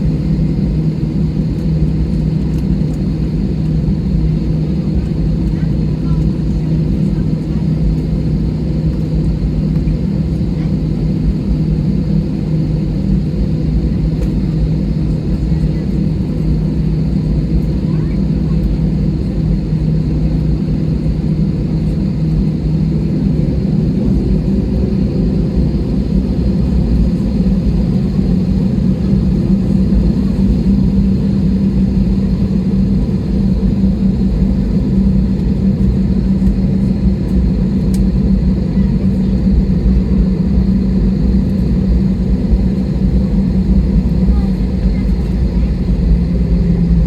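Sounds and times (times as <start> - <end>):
airliner engines rumbling: 0.0 - 47.0.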